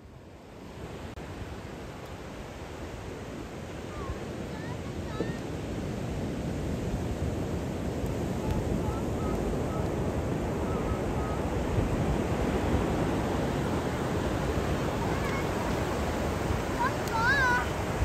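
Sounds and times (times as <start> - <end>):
ocean waves breaking on beach: 0.0 - 18.0.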